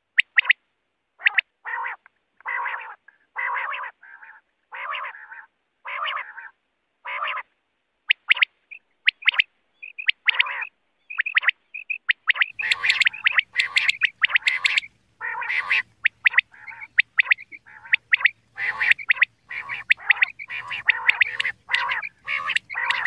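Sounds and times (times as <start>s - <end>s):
quail calling: 1.2s - 7.5s, 8.1s - 23.0s.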